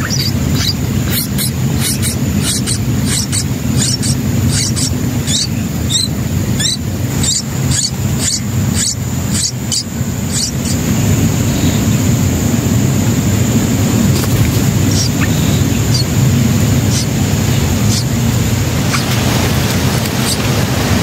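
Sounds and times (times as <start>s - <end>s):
nestlings begging calls: 0.0s - 21.0s
steady low rumble: 0.0s - 21.0s.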